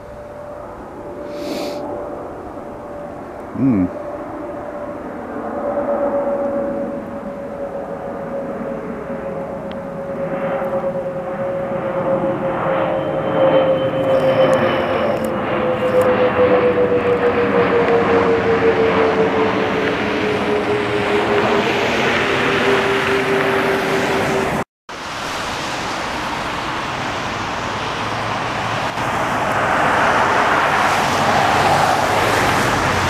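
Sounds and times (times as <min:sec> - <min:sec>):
jet airliner engine roar: 0:00.0 - 0:33.0.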